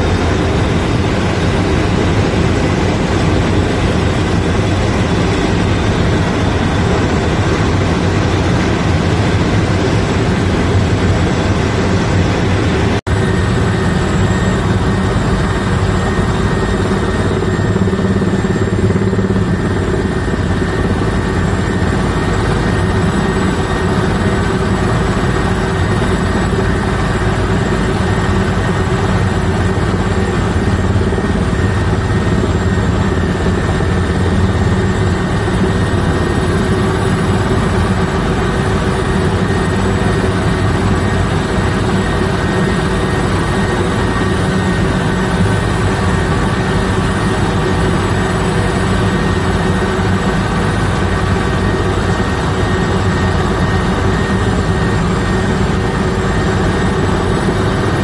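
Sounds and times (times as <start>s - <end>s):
helicopter drone from cabin: 0.0s - 58.0s.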